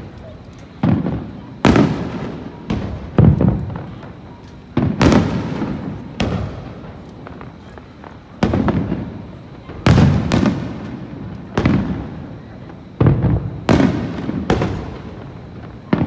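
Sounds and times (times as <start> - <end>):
fireworks bursting with rumble: 0.0 - 16.0.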